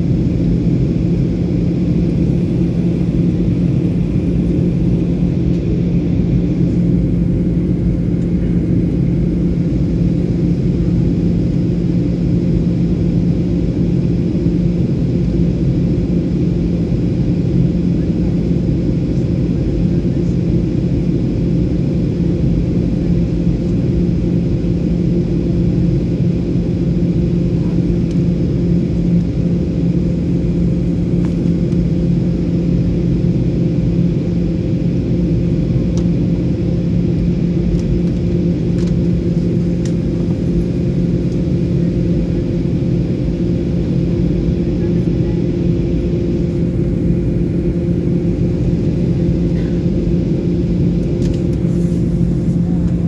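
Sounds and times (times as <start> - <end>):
low hum tones: 0.0 - 20.4, 26.6 - 53.0
jet engine and airflow noise: 0.0 - 53.0.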